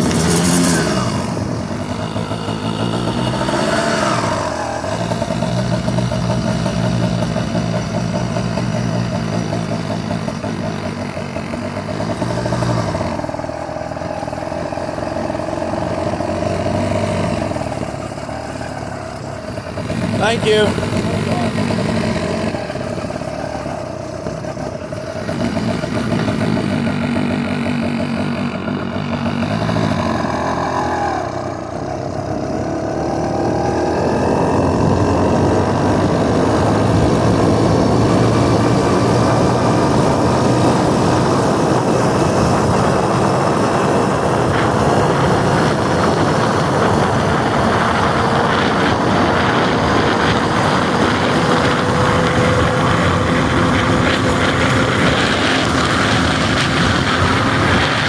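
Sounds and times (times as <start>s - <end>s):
small gas engine running: 0.0s - 58.0s.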